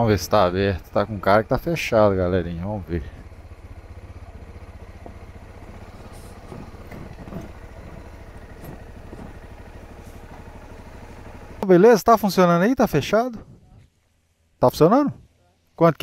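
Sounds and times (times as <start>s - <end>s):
motorcycle engine at low revs: 0.0s - 15.8s.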